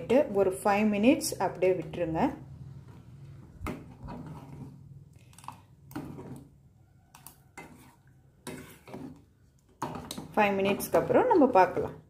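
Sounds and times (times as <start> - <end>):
ladle scraping and knocking pot: 1.6 - 12.0
ladle stirring thick porridge: 1.6 - 12.0.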